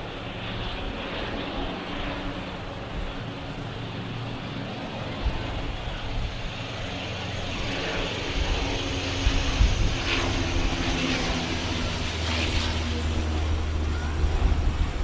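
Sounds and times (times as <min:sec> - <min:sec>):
aircraft engine drone overhead: 0:00.0 - 0:15.0.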